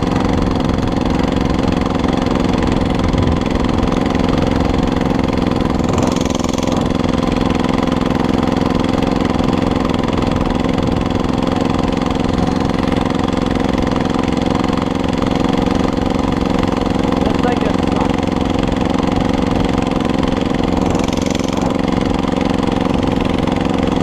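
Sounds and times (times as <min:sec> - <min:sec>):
small motorbike engine putting: 0:00.0 - 0:24.0.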